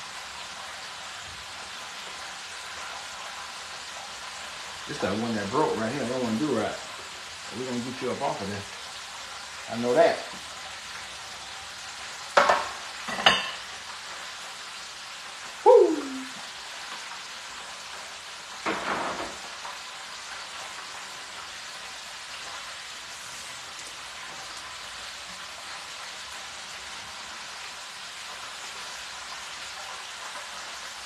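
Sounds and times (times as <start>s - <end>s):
hot oil sizzling: 0.0s - 31.0s.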